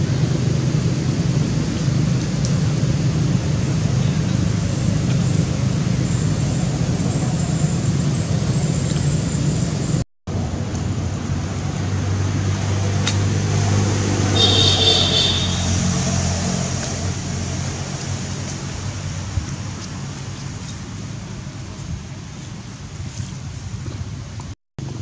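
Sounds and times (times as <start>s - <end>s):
passing vehicle engine: 0.0s - 20.8s.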